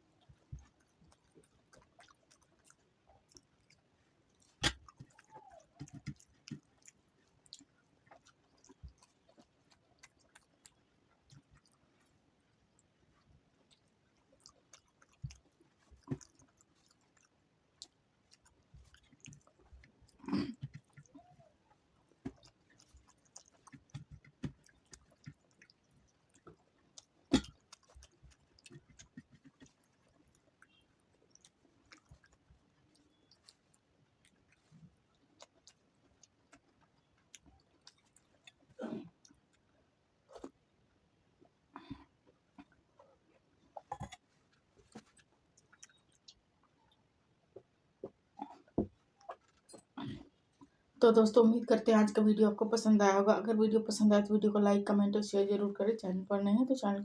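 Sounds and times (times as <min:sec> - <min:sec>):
wet mouth chewing sounds: 0:00.0 - 0:40.7, 0:41.4 - 0:50.8.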